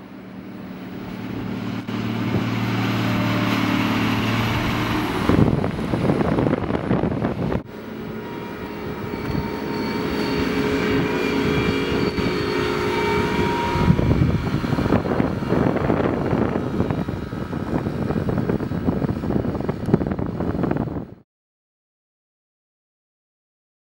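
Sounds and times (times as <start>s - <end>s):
steady machine whine: 0.0s - 20.2s
wheel loader diesel engine: 0.0s - 21.1s.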